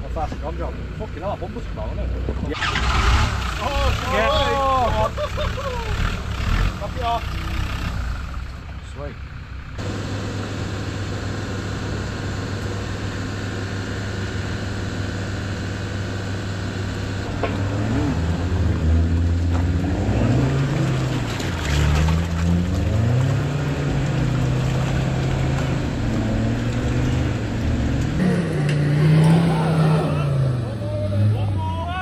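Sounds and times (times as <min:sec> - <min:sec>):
diesel engine idling and revving: 0:00.0 - 0:32.0.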